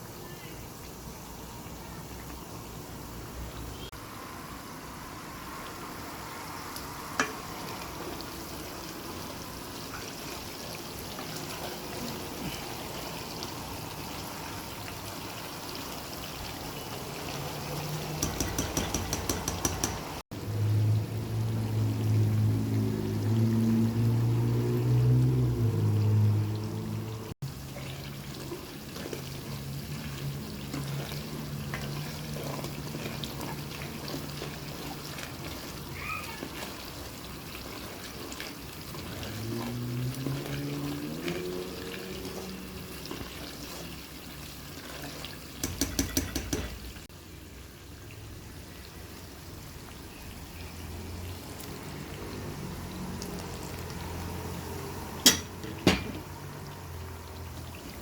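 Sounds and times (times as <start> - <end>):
food sizzling in oil: 0.0 - 26.6, 27.4 - 58.0.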